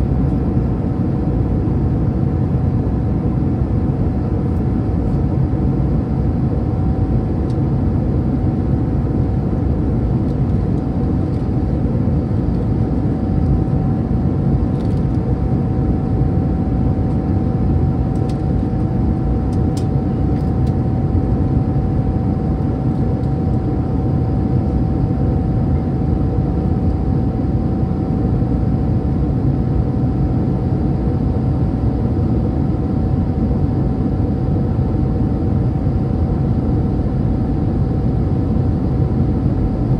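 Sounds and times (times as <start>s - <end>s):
airplane cabin engine rumble: 0.0s - 39.9s
steady humming tone: 0.0s - 39.9s.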